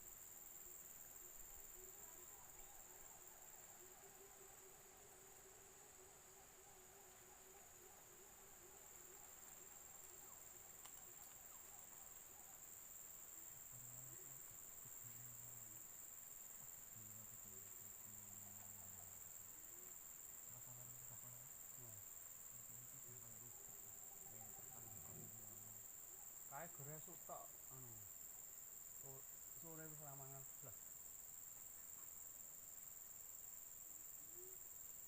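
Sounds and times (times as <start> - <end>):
faint low hums: 0.0 - 30.9
insect chorus: 0.0 - 35.0.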